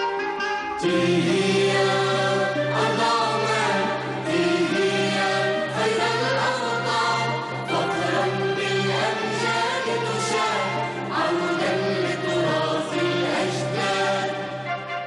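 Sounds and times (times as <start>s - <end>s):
orchestral music with choir: 0.0s - 15.0s.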